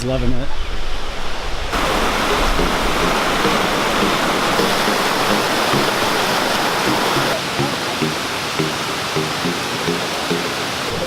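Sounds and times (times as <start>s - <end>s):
stream water rushing: 1.7s - 11.0s.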